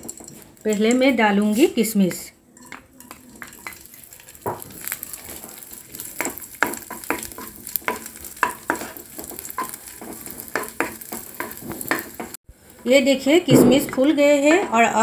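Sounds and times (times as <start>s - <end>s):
spatula scraping and knocking pan: 0.0s - 1.7s, 2.5s - 15.0s
raisins sizzling in a pan: 0.0s - 15.0s.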